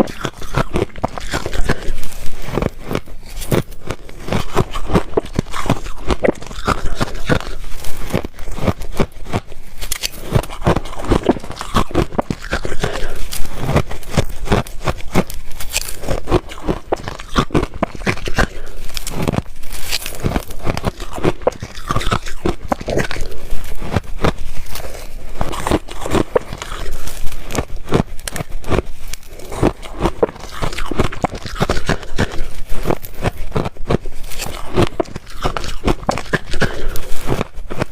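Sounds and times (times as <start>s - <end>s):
ice crunching between teeth: 0.0s - 37.9s.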